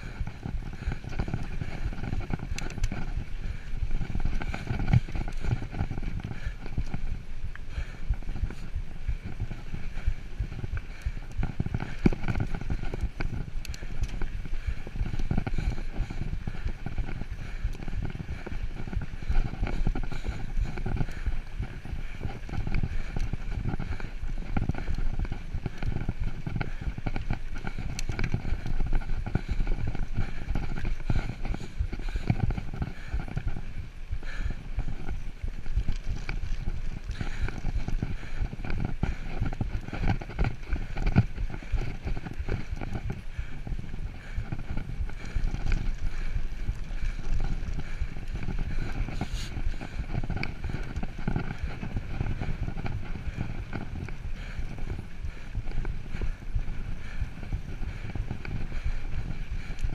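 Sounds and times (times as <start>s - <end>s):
bike rattling and knocking: 0.0s - 59.9s.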